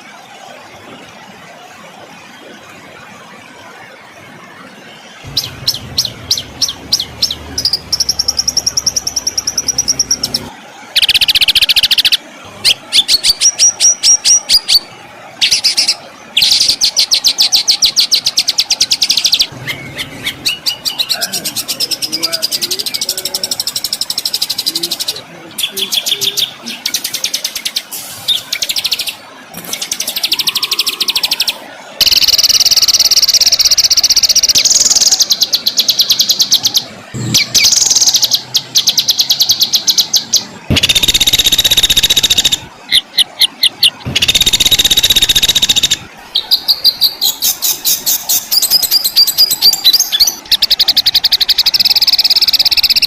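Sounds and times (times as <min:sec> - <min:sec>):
songbirds singing fast trills: 0:05.3 - 0:53.0.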